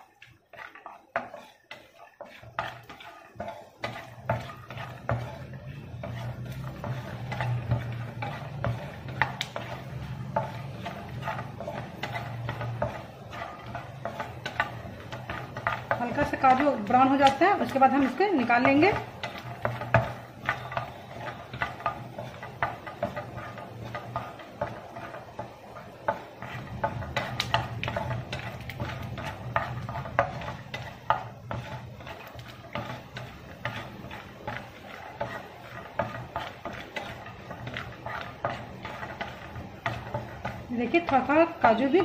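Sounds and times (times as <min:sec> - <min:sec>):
spatula scraping nuts in pan: 0:00.0 - 0:42.0.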